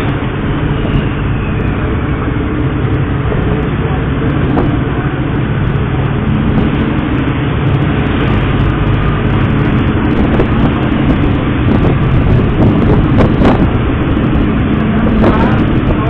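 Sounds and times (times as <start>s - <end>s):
boat engine drone: 0.0s - 16.0s
water rushing: 0.0s - 16.0s.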